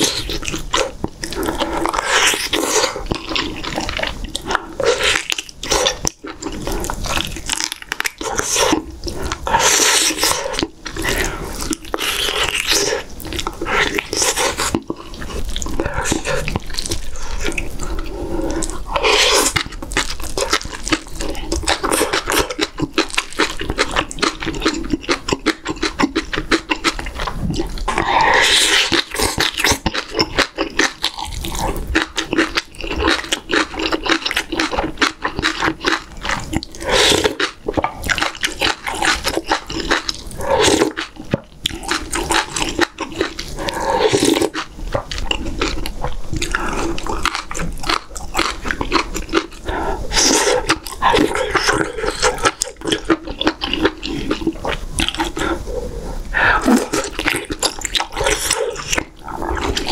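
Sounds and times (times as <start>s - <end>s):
wet chewing and lip-smacking: 0.0s - 59.9s
wet slurping: 0.0s - 59.9s.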